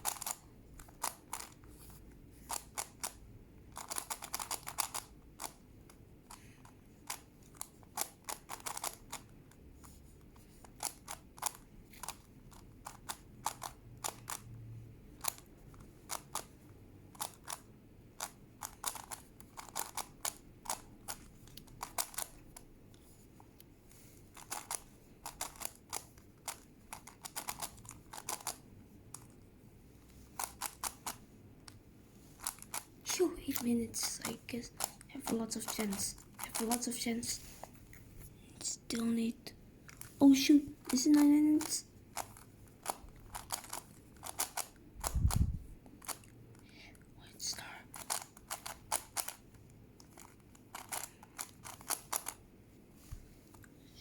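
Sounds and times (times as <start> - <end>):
puzzle cube clicking: 0.0 - 14.6, 15.2 - 23.1, 24.2 - 37.6, 39.8 - 47.0, 47.6 - 52.4.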